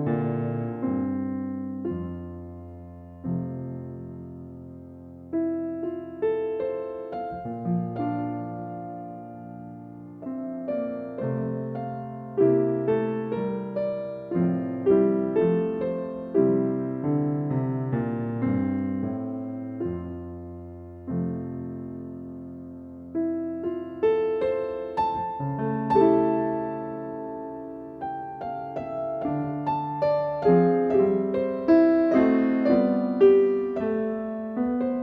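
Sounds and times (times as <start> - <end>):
gentle solo piano: 0.0 - 35.0.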